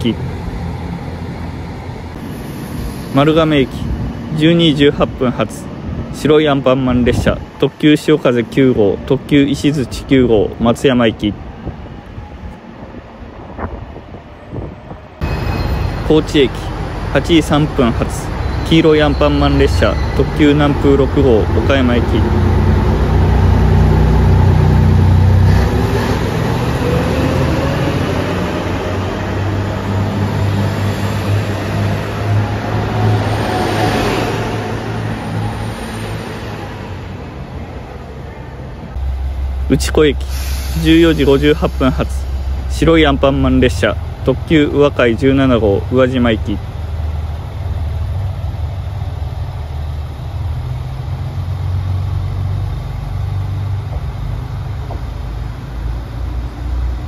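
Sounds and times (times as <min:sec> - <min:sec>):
diesel train engine hum: 0:00.0 - 0:07.6, 0:11.3 - 0:57.0.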